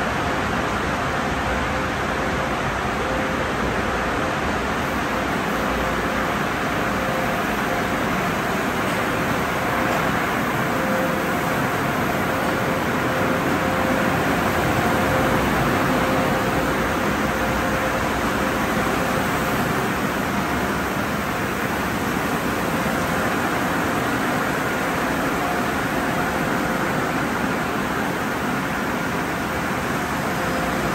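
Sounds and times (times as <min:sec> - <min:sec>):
faint machine tone: 0:01.0 - 0:30.9.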